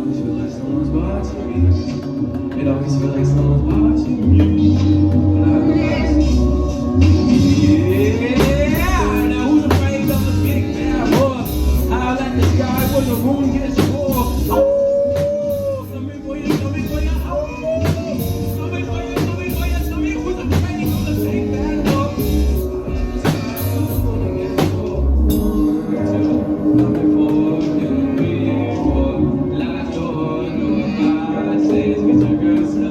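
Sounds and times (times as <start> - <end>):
music with steady beat and bass: 0.0 - 32.9
person singing: 0.0 - 32.9.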